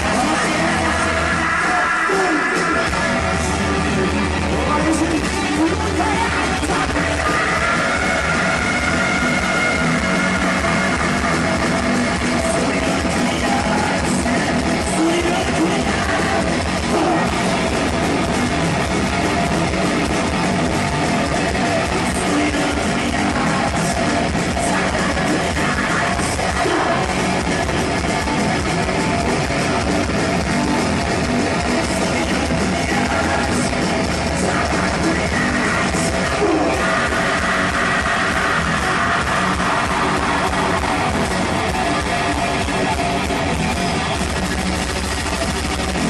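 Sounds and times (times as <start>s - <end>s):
distorted electric guitar: 0.0s - 46.0s
drum kit: 0.0s - 46.0s
singing and yelled vocals: 0.0s - 46.0s.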